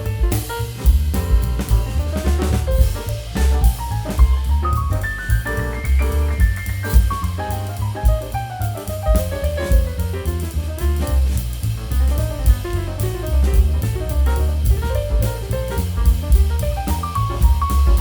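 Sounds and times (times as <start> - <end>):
upbeat jazz music: 0.0 - 18.0.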